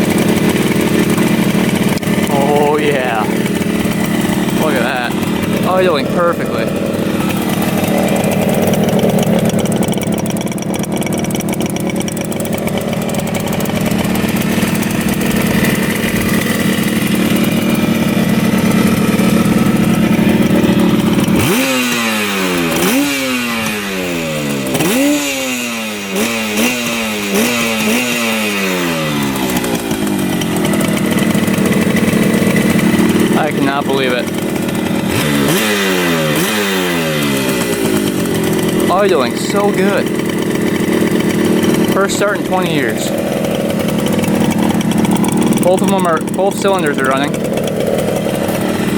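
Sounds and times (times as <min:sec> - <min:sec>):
motorcycle engine revving: 0:00.0 - 0:48.9
two-stroke motorcycle engine idling: 0:00.0 - 0:48.9.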